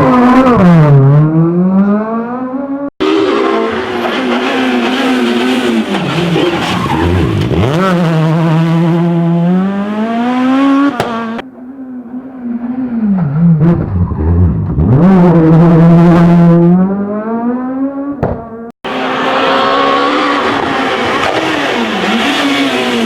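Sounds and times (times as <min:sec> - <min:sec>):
car accelerating: 0:00.0 - 0:23.0
rally car engine revving: 0:00.0 - 0:23.0.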